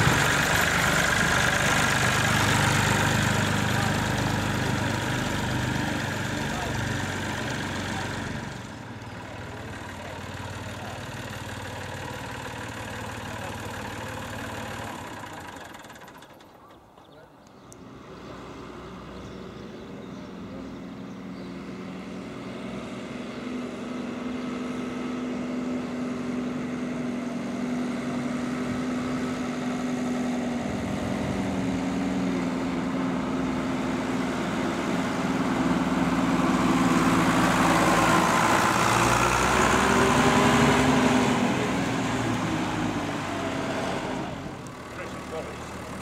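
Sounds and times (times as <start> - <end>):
tractor engine driving past: 0.0 - 46.0.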